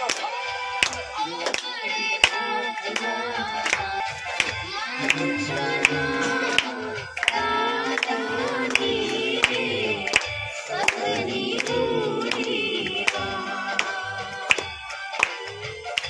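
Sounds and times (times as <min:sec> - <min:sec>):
sharp rhythmic strikes: 0:00.8 - 0:16.0
voices singing a hymn together: 0:01.2 - 0:15.6.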